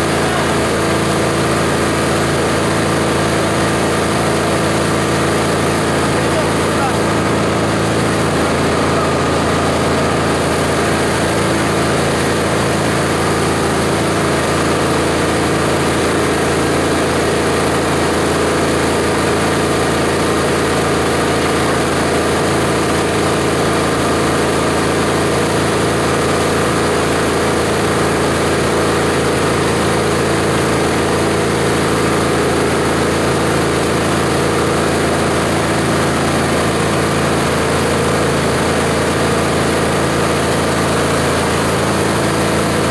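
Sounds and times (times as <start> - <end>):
chopper-shredder machine hum: 0.0 - 42.9.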